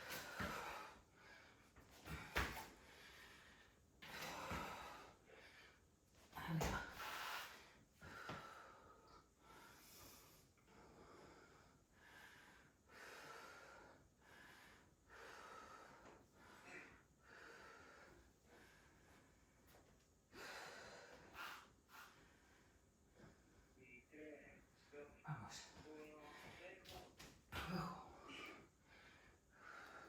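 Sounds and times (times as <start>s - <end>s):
woman breathing heavily: 0.0s - 23.8s, 25.3s - 30.0s.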